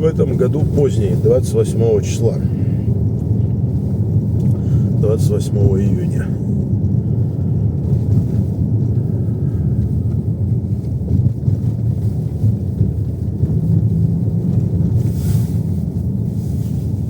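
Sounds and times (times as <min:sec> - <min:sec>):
tyres rumbling on road: 0:00.0 - 0:17.0.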